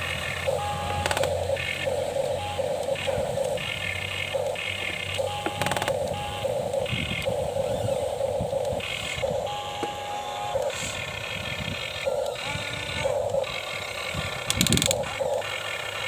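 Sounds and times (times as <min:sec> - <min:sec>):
small electric motors whining: 0:00.0 - 0:16.0
clicks: 0:00.4 - 0:11.0, 0:11.8 - 0:16.0.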